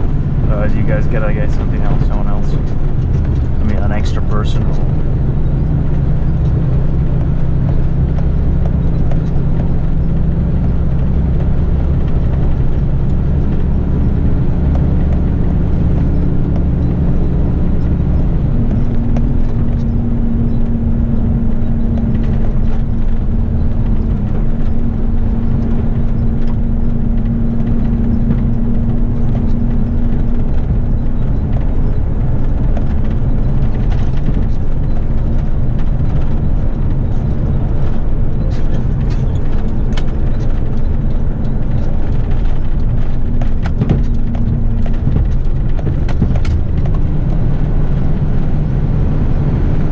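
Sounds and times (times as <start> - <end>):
steady higher hum: 0.0 - 49.9
truck diesel engine running: 0.0 - 49.9.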